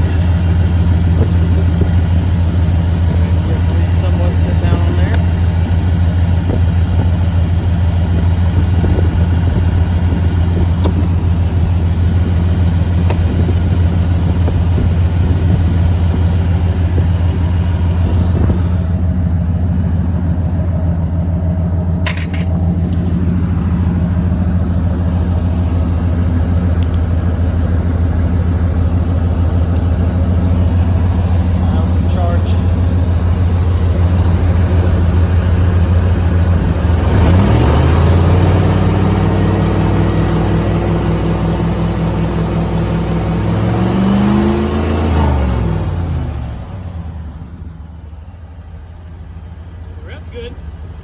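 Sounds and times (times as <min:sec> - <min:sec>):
truck engine rumbling: 0:00.0 - 0:51.0.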